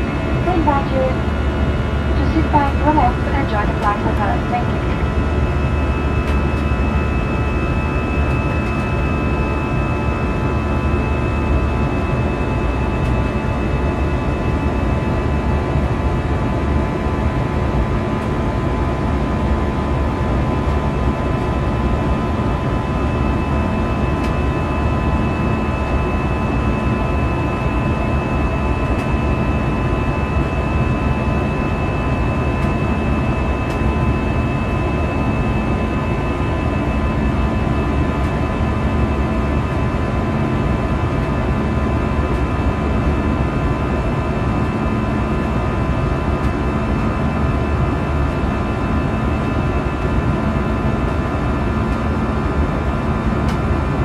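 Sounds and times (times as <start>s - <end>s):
fan buzzsaw tone: 0.0s - 54.0s
jet engine rumble in cabin: 0.0s - 54.0s.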